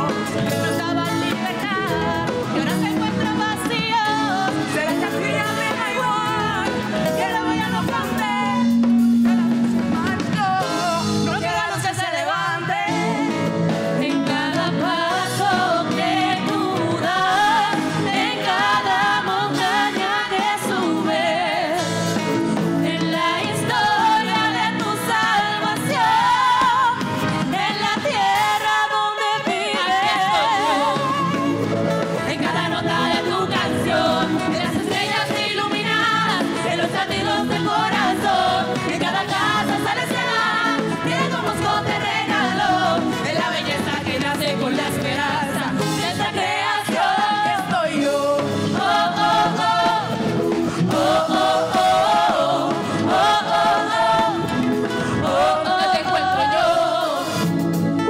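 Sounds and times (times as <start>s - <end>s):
bass: 0.0s - 58.0s
drums: 0.0s - 58.0s
keyboard: 0.0s - 58.0s
people singing: 0.0s - 58.0s.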